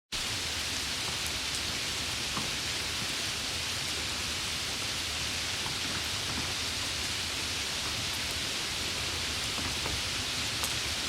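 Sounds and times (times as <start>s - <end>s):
heavy rain hiss: 0.2s - 11.0s.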